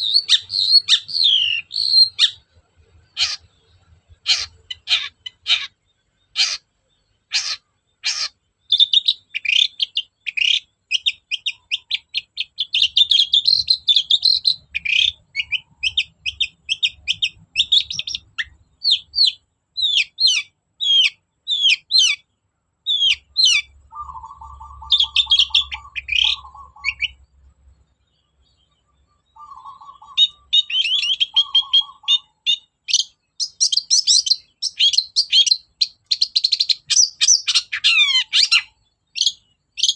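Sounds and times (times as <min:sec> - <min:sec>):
shrike singing: 0:00.0 - 0:06.6, 0:07.2 - 0:27.3, 0:28.4 - 0:39.9.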